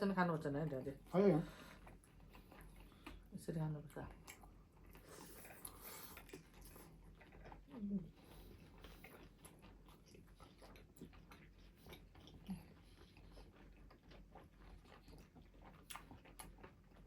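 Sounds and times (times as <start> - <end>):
person chewing: 1.8 - 3.3, 4.1 - 17.0.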